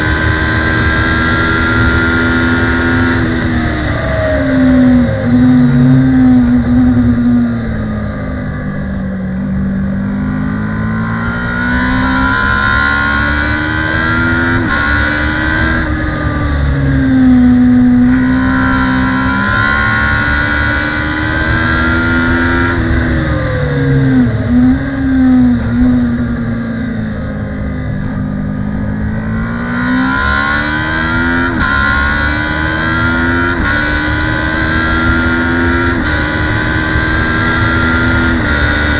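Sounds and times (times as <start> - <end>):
race bike engine accelerating: 0.0 - 9.0, 9.8 - 38.9.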